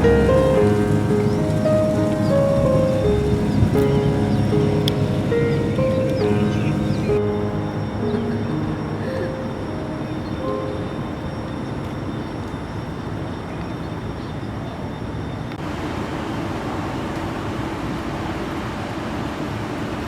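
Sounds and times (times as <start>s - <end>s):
distant traffic rumble: 0.0s - 20.0s.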